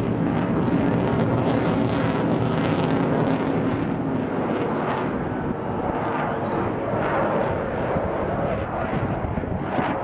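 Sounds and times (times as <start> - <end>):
jet passing overhead: 0.0 - 10.0.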